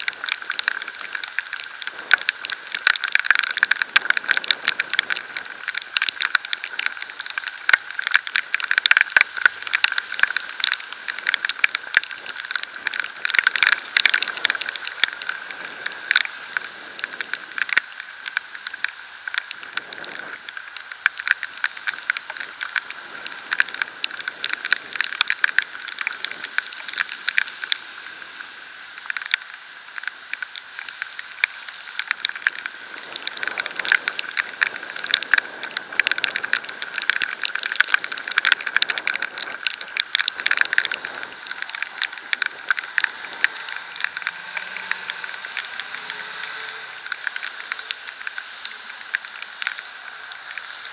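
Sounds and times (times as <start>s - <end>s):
rain and spray hitting camera: 0.0s - 50.9s.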